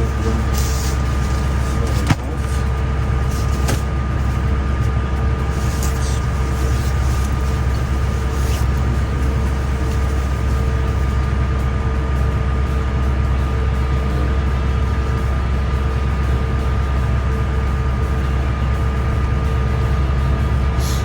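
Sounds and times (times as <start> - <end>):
constant whining tones: 0.0 - 21.0
low mechanical drone: 0.0 - 21.0.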